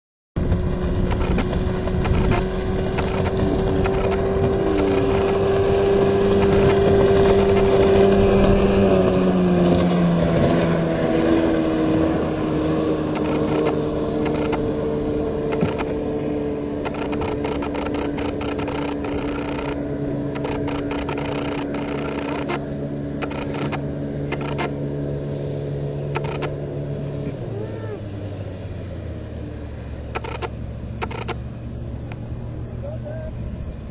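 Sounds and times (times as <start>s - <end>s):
outboard motor running: 0.4s - 33.9s.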